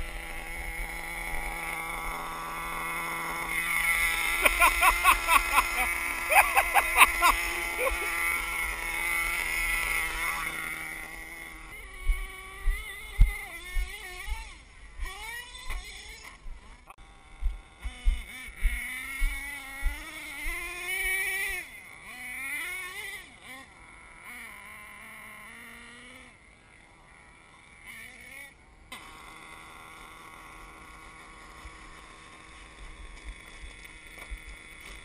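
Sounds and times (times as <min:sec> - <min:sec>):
toy car motor revving: 0:00.0 - 0:35.0.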